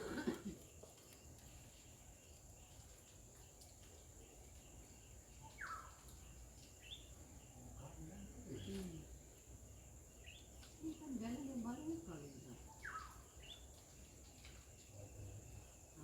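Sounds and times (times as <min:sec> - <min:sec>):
bird-like chirps: 0:00.1 - 0:16.0.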